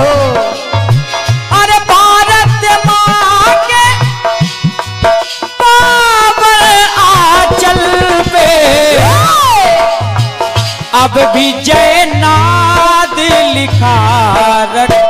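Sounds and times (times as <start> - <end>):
man singing: 0.0 - 4.6, 5.6 - 15.0
dholak drum beats: 0.0 - 15.0
harmonium: 0.0 - 15.0.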